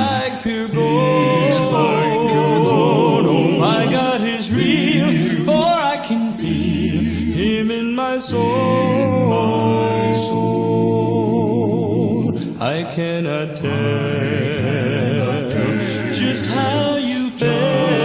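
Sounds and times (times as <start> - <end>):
vocal quartet singing in harmony: 0.0 - 18.0.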